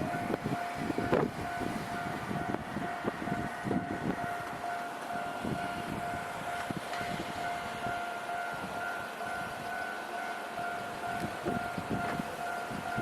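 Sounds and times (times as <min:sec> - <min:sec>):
level crossing warning bell: 0:00.0 - 0:13.0.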